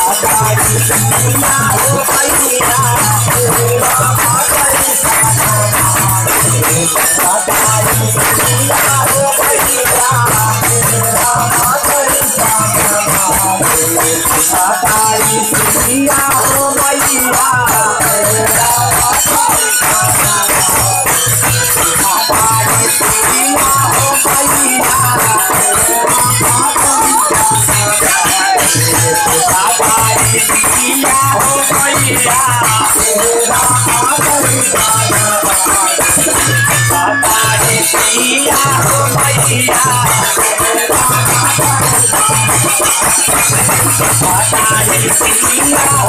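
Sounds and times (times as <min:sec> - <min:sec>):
fast jingling percussion: 0:00.0 - 0:46.0
person singing: 0:00.0 - 0:46.0.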